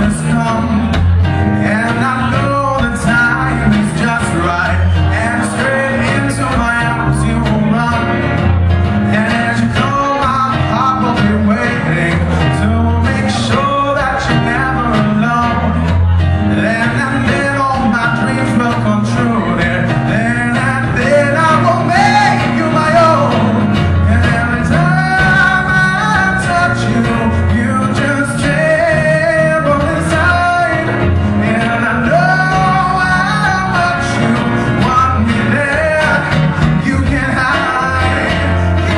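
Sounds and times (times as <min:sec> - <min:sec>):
acoustic guitar: 0:00.0 - 0:38.9
electric bass: 0:00.0 - 0:38.9
man singing: 0:00.0 - 0:38.9.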